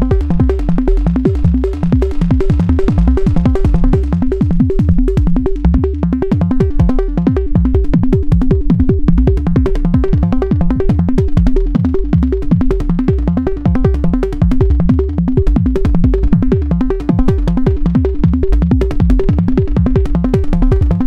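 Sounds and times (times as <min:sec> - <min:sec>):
repeating pitched synth notes: 0:00.0 - 0:21.0
synthesized kick drums: 0:00.0 - 0:21.0.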